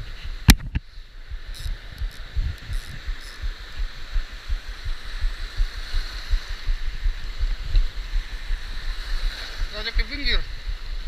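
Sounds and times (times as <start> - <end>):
waves breaking: 0.0 - 11.0
water thumping on microphone: 0.4 - 9.7.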